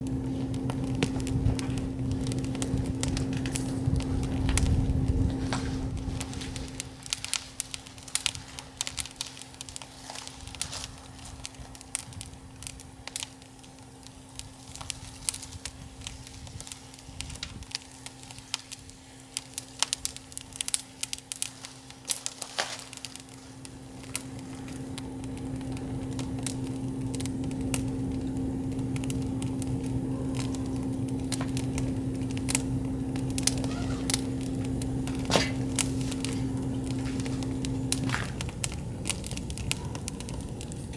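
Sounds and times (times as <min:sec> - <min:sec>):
campfire crackling and popping: 0:00.0 - 0:40.9
steady low hum: 0:00.0 - 0:40.9.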